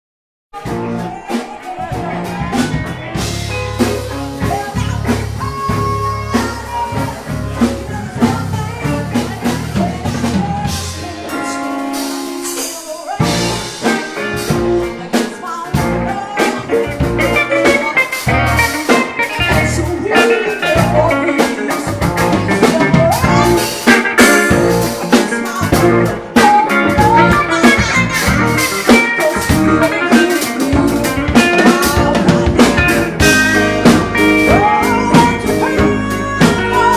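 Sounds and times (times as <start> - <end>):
drums: 0.5 - 36.9
blues band playing: 0.6 - 36.9
electric guitar: 0.6 - 36.9.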